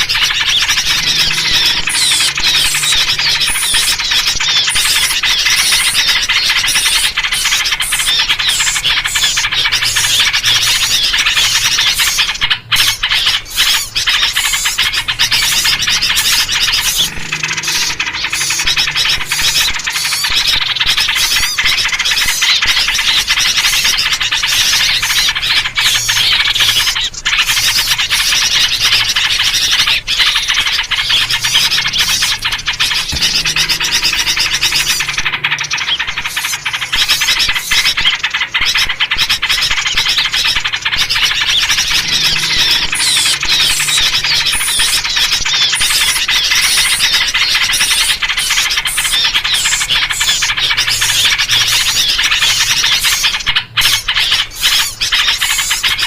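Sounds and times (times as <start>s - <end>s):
bulbul calls: 0.0s - 56.0s
small birds chattering: 0.0s - 56.0s.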